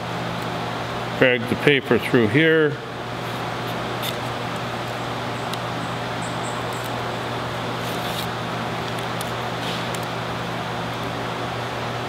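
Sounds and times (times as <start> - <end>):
fan humming and hissing: 0.0 - 12.0.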